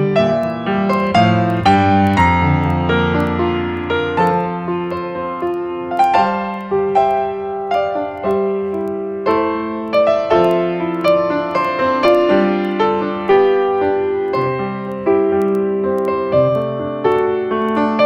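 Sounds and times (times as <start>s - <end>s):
gentle piano piece: 0.0s - 18.0s.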